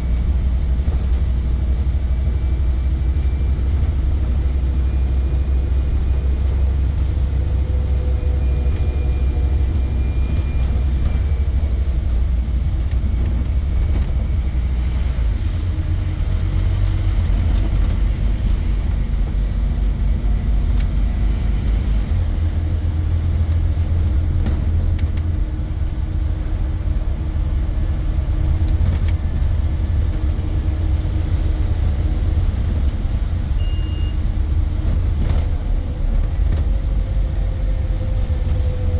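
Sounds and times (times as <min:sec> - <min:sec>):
bus diesel engine rumbling: 0:00.0 - 0:38.9.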